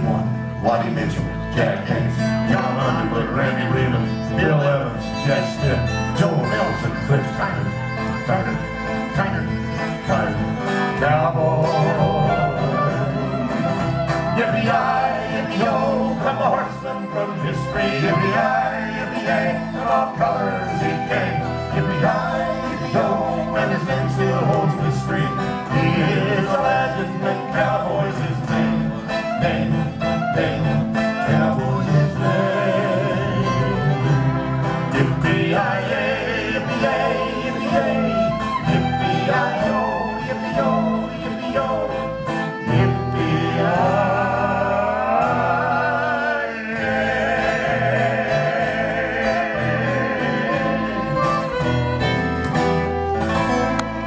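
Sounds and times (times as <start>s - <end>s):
acoustic string band with guitar: 0.0s - 54.0s
vocal harmony singing: 0.0s - 54.0s.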